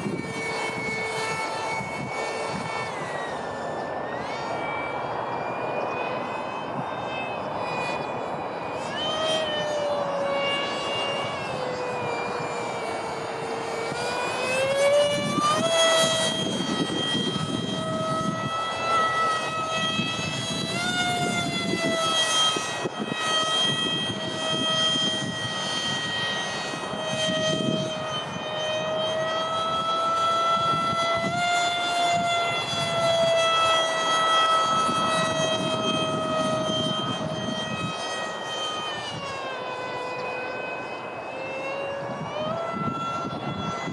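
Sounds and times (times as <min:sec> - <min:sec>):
electric ducted fan whine: 0:00.0 - 0:43.9.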